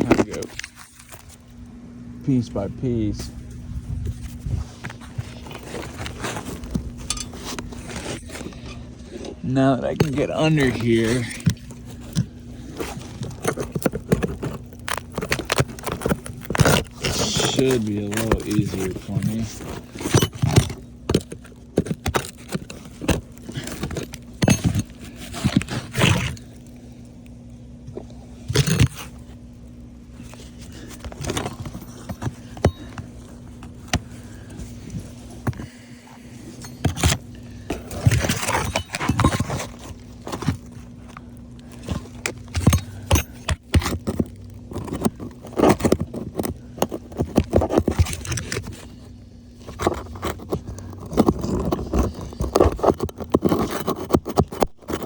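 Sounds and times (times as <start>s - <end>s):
hand tool scraping roof shingles: 4.7s - 26.9s, 28.4s - 29.3s, 30.2s - 55.0s.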